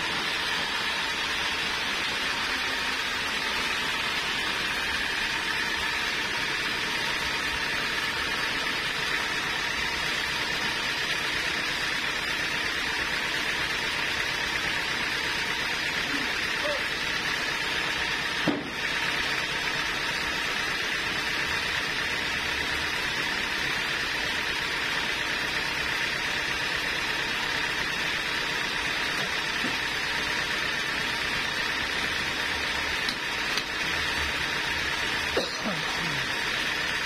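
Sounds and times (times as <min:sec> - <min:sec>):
band saw hum and whine: 0:00.0 - 0:37.0.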